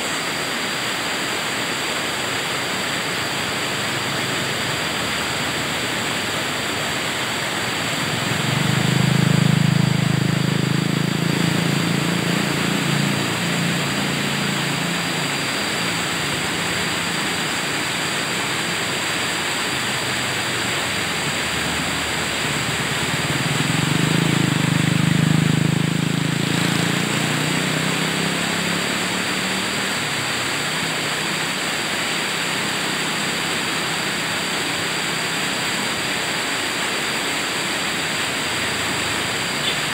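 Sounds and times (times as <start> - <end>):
low engine-like drone: 0.0 - 39.9
river rapids rushing: 0.0 - 39.9.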